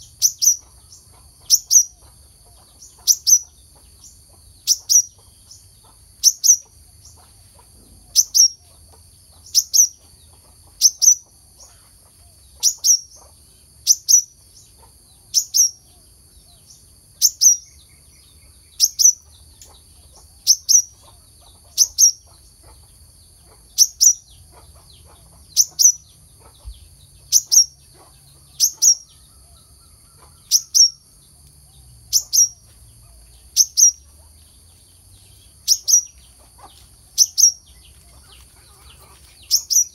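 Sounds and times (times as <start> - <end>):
sunbird high chip calls: 0.0 - 39.9.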